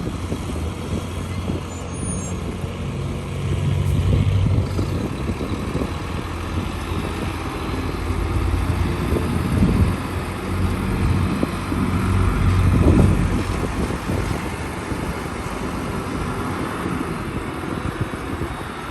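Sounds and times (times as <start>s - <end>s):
diesel machinery engine drone: 0.0s - 18.9s.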